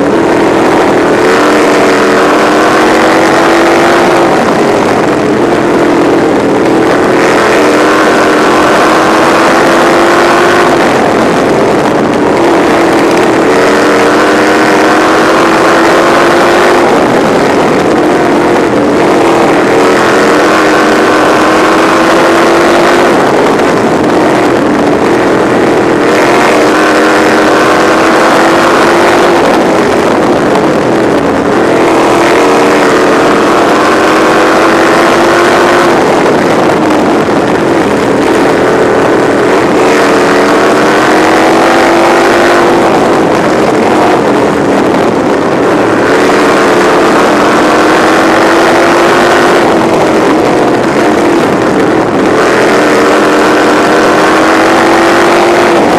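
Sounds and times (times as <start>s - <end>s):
race car engine revving: 0.0s - 55.9s
wind and road noise: 0.0s - 55.9s.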